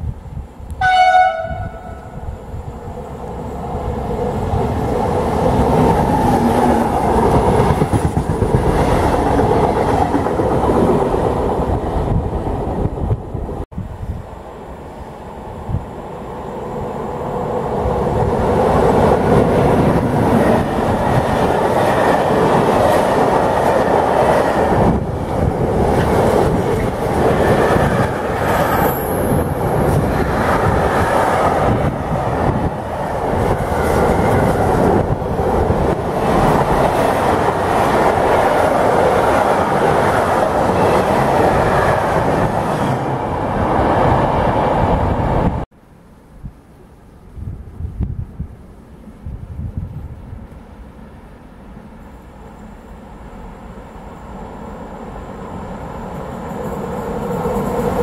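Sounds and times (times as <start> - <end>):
freight train passing: 0.0 - 45.7, 46.8 - 58.0.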